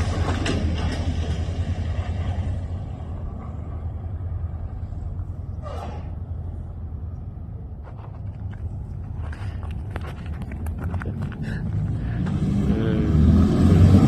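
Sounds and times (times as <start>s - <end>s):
buggy engine humming: 0.0s - 14.0s.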